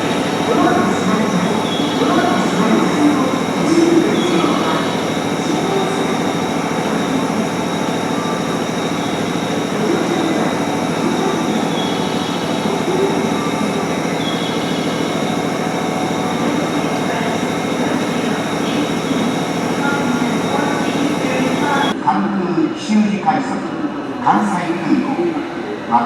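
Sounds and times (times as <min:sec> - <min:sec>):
electric train rumbling: 0:00.0 - 0:22.0
high wheel squeals: 0:00.0 - 0:22.0.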